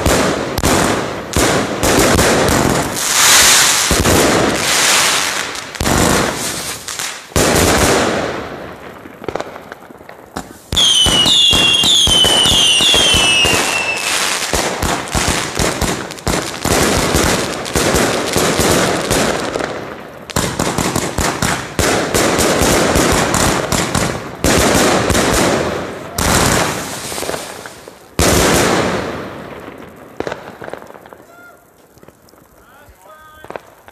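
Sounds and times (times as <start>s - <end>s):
falling firework whistles: 0.0s - 8.5s, 10.3s - 19.6s, 20.3s - 33.9s
fireworks shots and crackling: 0.0s - 33.9s.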